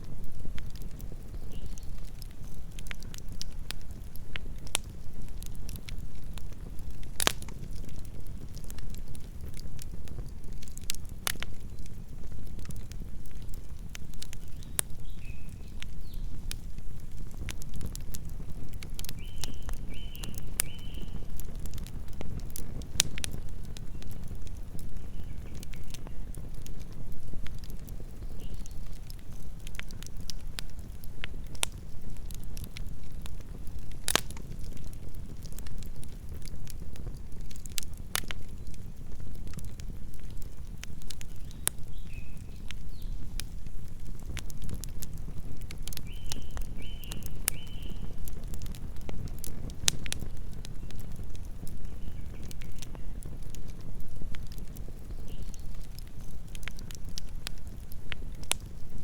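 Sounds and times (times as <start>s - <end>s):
burning wood crackling and popping: 0.0s - 59.0s
campfire flames rumbling: 0.0s - 59.0s.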